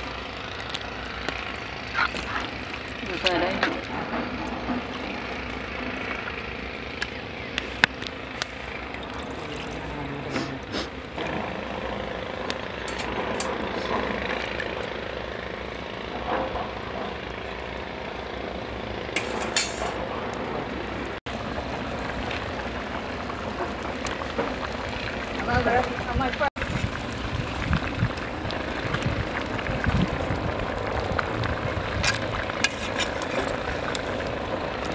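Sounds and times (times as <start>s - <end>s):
curry bubbling: 0.0s - 34.9s.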